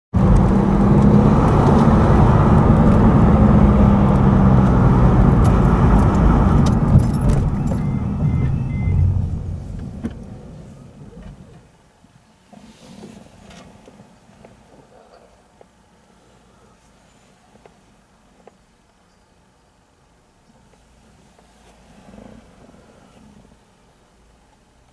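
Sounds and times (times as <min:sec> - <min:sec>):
car engine and road noise: 0:00.1 - 0:14.5, 0:15.6 - 0:24.9.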